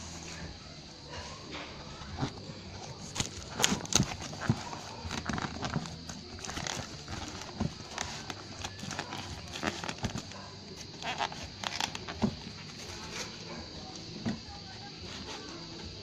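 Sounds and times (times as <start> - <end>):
paper and plastic wrapping rustling: 1.8 - 16.0.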